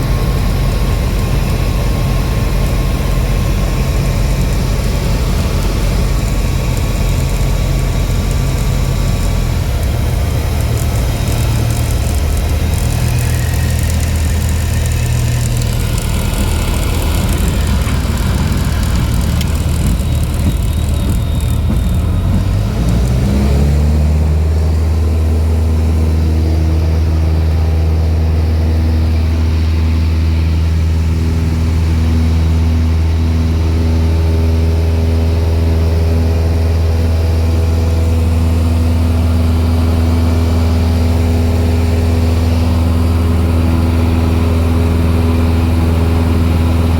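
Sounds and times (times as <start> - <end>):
propeller plane engine: 0.0 - 46.9.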